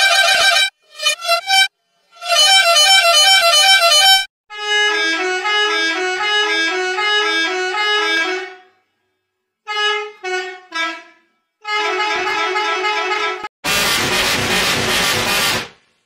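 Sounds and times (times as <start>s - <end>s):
bus horn honking: 0.0s - 8.8s, 9.6s - 15.6s.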